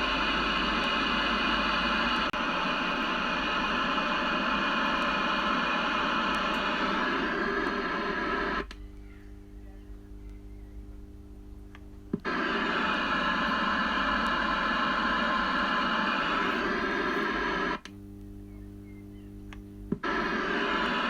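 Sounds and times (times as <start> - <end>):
hissing radio static: 0.0 - 8.7, 12.1 - 21.0
low hum: 0.0 - 21.0.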